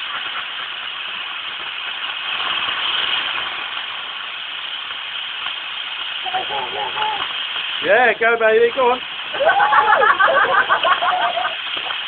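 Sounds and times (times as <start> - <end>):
firework hissing sparks: 0.0 - 12.0.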